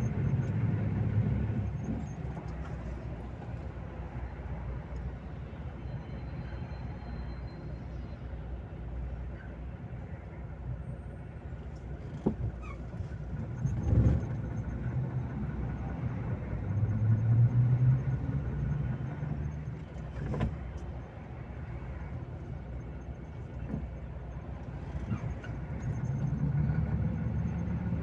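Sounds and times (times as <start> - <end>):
truck engine and road rumble: 0.0 - 28.0.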